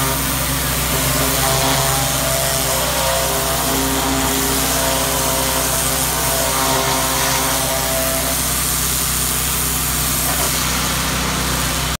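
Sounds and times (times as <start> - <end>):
pressure washer motor humming: 0.0 - 12.0.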